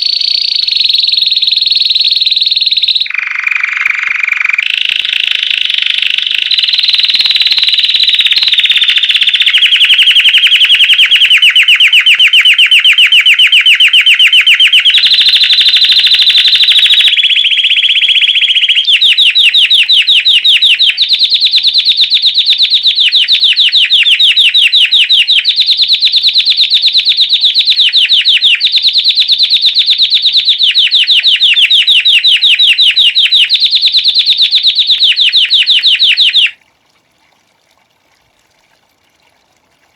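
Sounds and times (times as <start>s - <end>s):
canary singing trills: 0.0s - 36.6s.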